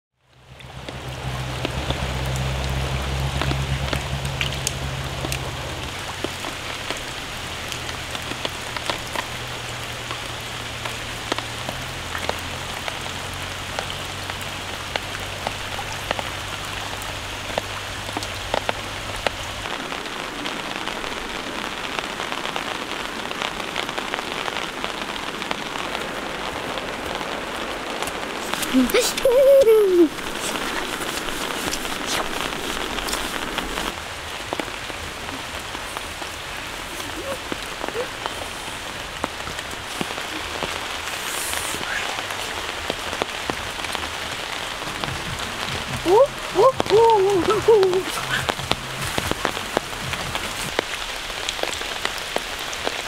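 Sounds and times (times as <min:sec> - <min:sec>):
rain on ground and leaves: 0:00.1 - 0:53.0.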